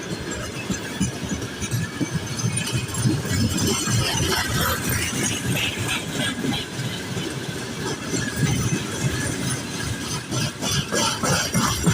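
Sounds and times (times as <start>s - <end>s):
freight train wheels rumbling on rails: 0.0s - 11.9s.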